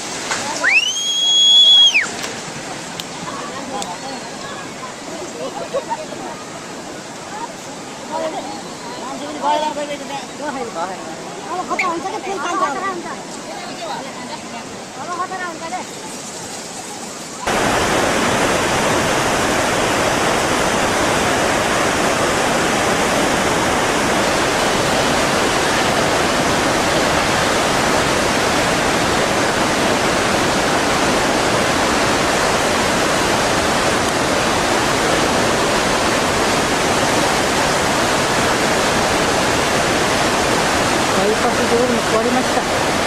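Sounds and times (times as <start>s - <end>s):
water rushing loudly: 0.0s - 43.0s.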